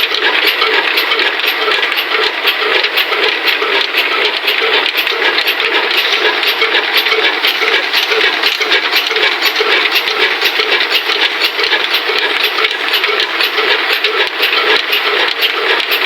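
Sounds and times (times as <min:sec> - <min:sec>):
stone flour mill clattering: 0:00.0 - 0:16.0.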